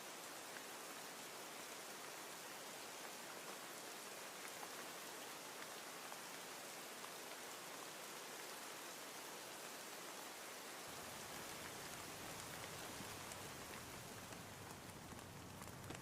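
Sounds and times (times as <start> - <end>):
steady rain hiss: 0.0 - 16.0
rain drops ticking: 0.1 - 16.0.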